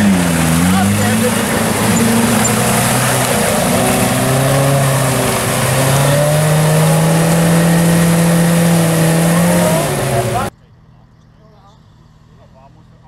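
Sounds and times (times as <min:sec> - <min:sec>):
engine revving hard: 0:00.0 - 0:10.5
mud and water churning: 0:00.0 - 0:10.5.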